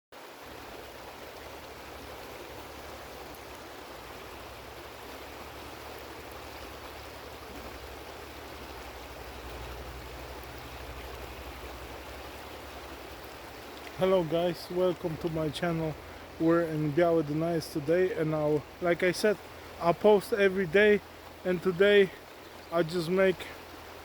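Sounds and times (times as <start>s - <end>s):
river water rushing: 0.2s - 24.0s.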